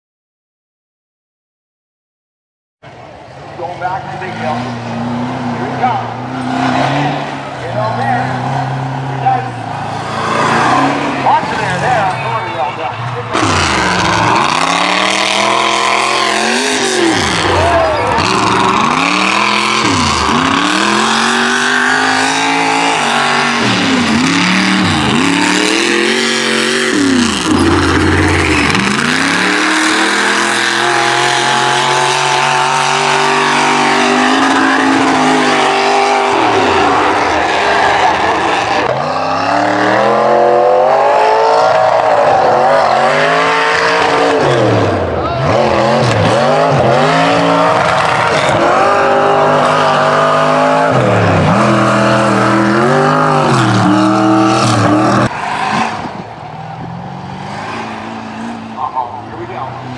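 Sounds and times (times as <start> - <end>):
truck engine revving hard: 3.6 - 59.9.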